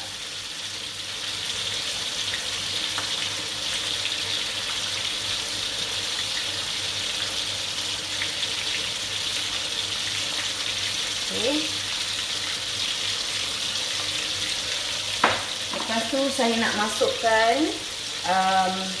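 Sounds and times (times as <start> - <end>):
sizzling in a wok: 0.0 - 19.0.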